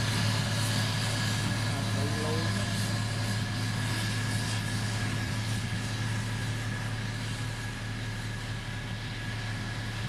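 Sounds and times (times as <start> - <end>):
heavy diesel engine humming: 0.0 - 10.0.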